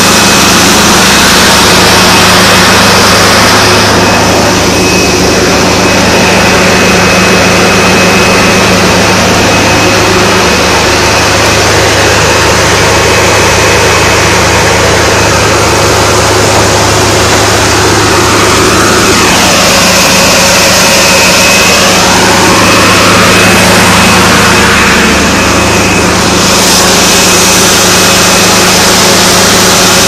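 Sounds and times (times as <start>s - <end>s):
heavy engine running: 0.0s - 30.0s
water gushing: 0.0s - 30.0s.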